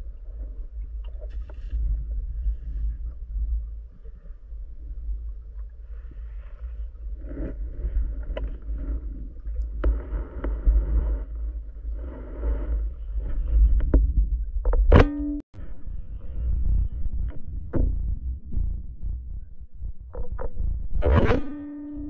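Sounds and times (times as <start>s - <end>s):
underwater rumble of water: 0.0s - 22.0s.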